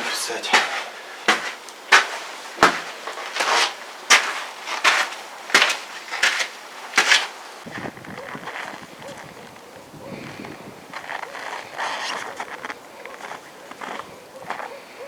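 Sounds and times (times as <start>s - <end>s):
crisp footsteps walking: 0.0s - 14.8s.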